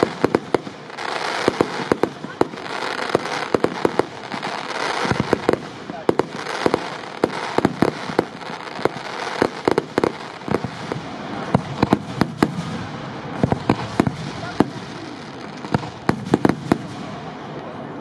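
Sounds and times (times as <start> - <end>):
crackling hiss: 0.0 - 18.0
fireworks bangs: 0.0 - 18.0.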